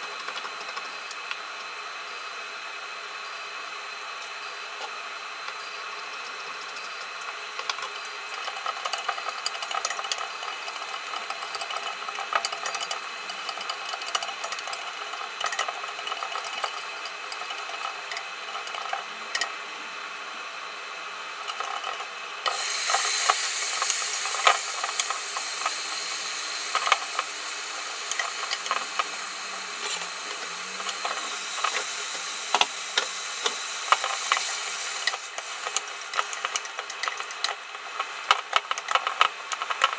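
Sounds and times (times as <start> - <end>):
food sizzling: 3.8 - 19.2, 20.5 - 39.9.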